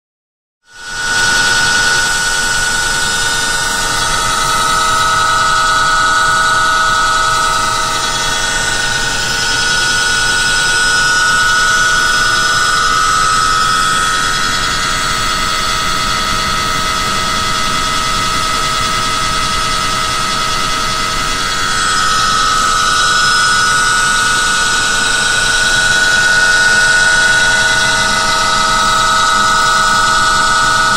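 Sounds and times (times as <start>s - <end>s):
pump motor high-pitched whine: 0.7s - 30.9s.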